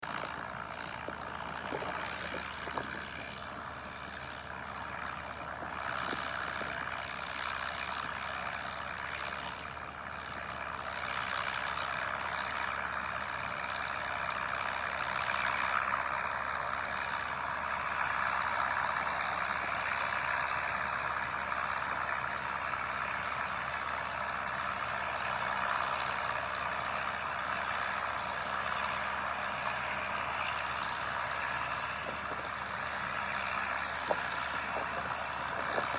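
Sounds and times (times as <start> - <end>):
tractor engine under load: 0.0 - 35.9.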